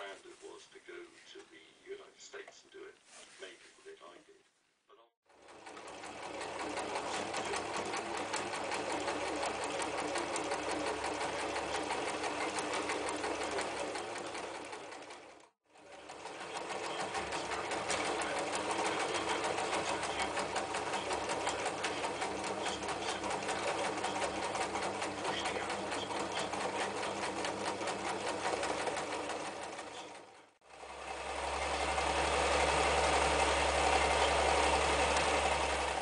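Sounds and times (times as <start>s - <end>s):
sewing machine stitching leather: 5.3s - 36.0s.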